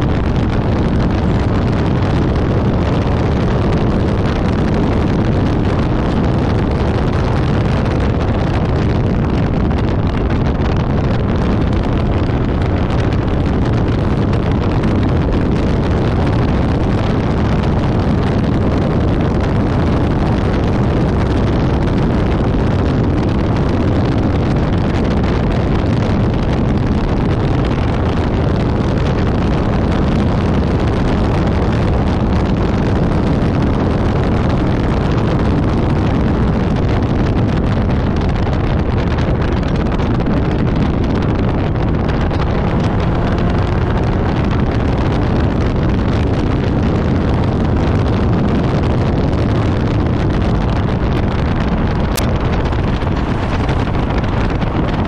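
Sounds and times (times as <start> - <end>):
car engine at speed: 0.0 - 55.0
heavy wind noise: 0.0 - 55.0.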